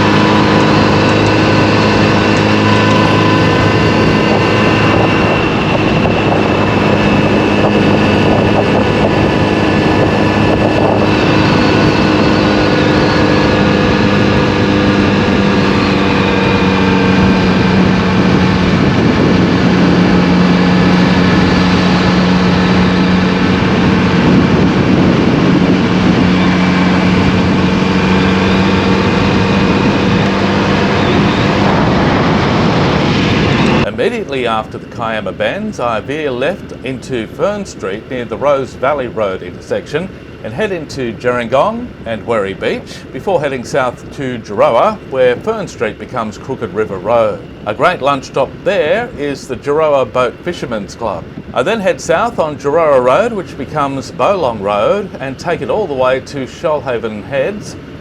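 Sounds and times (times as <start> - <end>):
motorcycle engine cruising: 0.0 - 58.0
wind rushing past microphone: 0.0 - 58.0.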